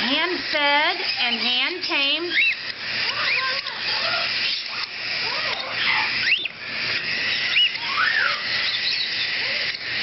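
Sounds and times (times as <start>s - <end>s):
baby cockatiels chirping: 0.9s - 10.0s.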